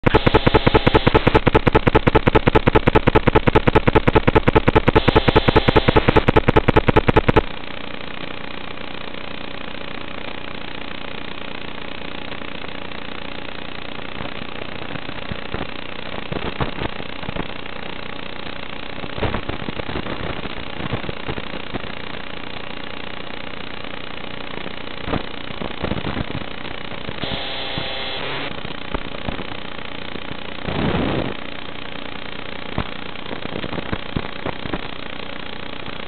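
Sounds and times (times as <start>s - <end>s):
fast pulsing electrical buzz: 0.0s - 36.0s
static hiss: 0.0s - 36.0s.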